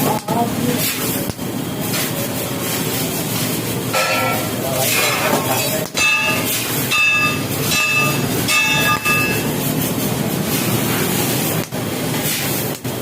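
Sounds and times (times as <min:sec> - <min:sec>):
laser cutting machine running: 0:00.0 - 0:13.0.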